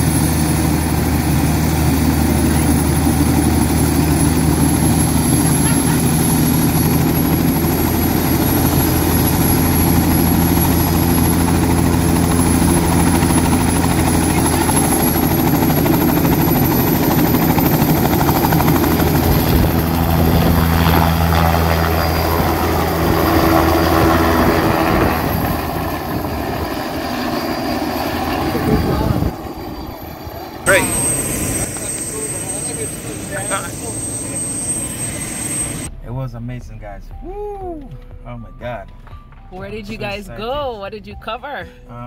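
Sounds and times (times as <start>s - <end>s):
helicopter rotor running: 0.0s - 35.9s
high thin turbine whine: 0.0s - 35.9s.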